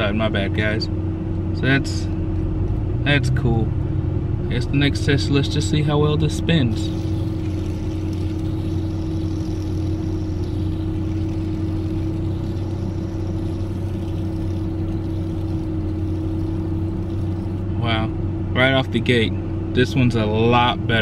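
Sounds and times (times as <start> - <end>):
car engine humming in cabin: 0.0 - 21.0.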